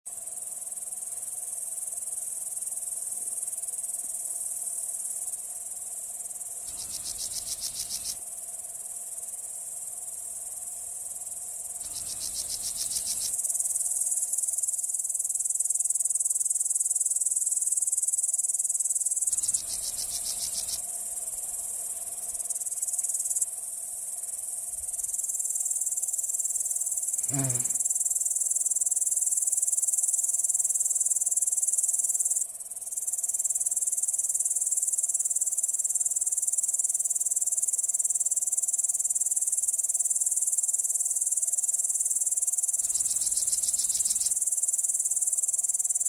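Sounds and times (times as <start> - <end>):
insects trilling: 0.1 - 46.0
rapid pulsed insect chirping: 0.1 - 46.0.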